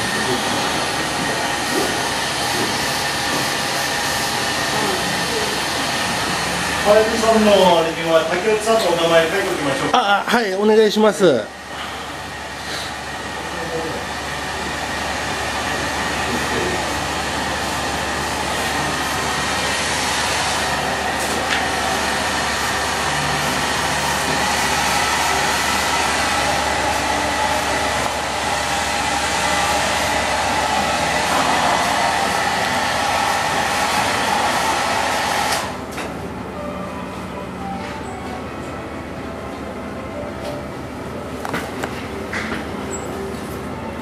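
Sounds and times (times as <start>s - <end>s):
electric air blower running: 0.0s - 37.7s.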